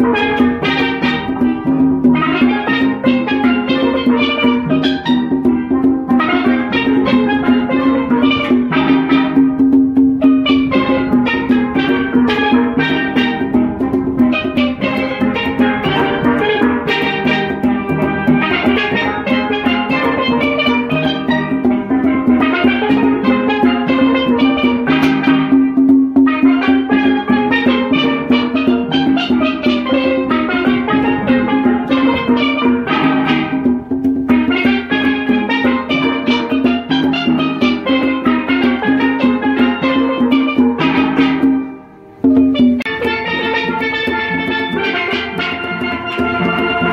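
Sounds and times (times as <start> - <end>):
steel pan band playing: 0.0 - 46.9.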